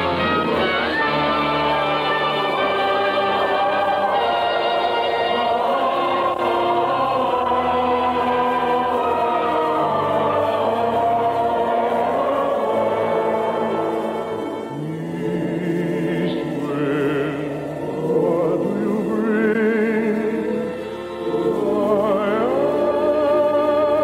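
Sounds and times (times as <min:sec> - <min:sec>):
choir singing long notes: 0:00.0 - 0:24.0
orchestra playing: 0:00.0 - 0:24.0.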